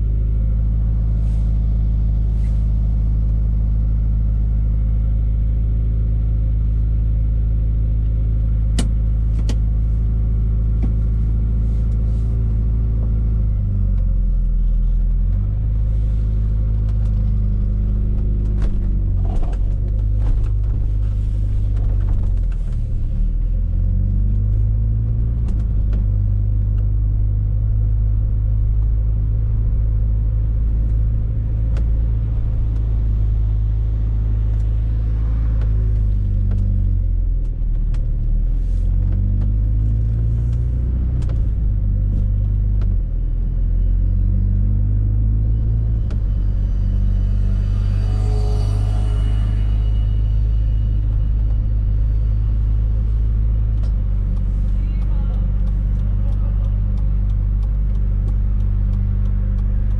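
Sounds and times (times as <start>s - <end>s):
car engine under way: 0.0s - 59.9s.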